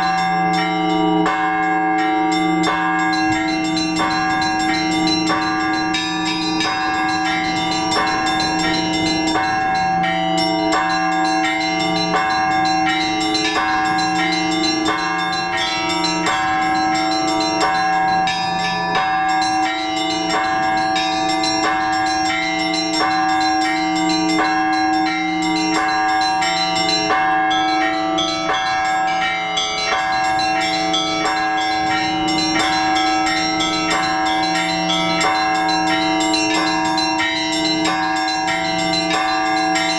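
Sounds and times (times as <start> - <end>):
large bells humming: 0.0 - 39.9
small bells struck quickly: 0.0 - 39.9.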